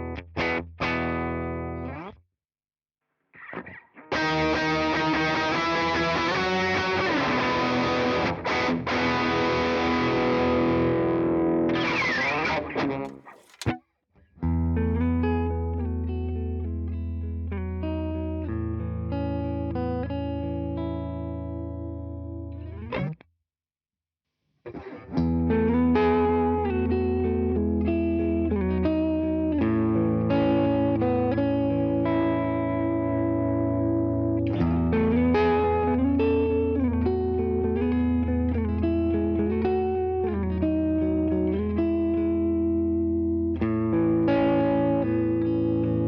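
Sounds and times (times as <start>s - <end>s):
electric guitar chords with effects: 0.0s - 2.2s, 3.4s - 13.0s, 14.5s - 23.2s, 24.7s - 46.0s.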